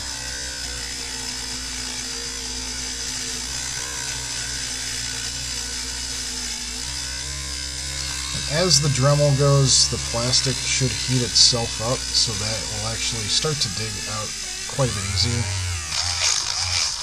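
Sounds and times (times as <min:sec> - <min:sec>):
rotary tool grinding plastic: 0:00.0 - 0:17.0.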